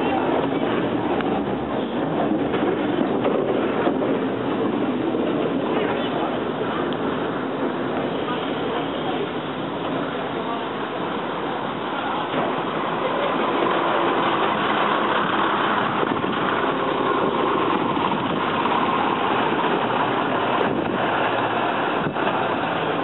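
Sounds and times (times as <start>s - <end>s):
diesel crane engine running: 0.0s - 23.0s
electric tram running on track: 0.0s - 23.0s.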